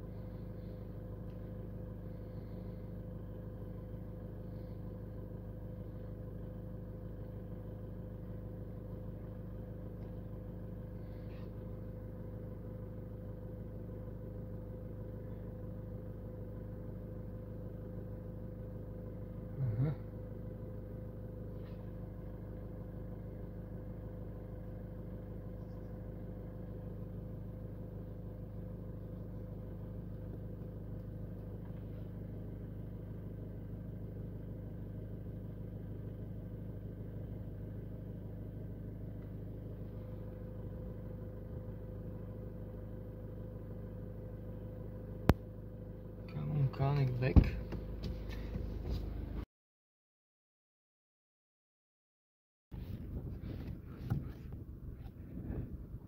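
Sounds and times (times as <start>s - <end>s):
car engine idling: 0.0s - 49.4s, 52.7s - 56.0s.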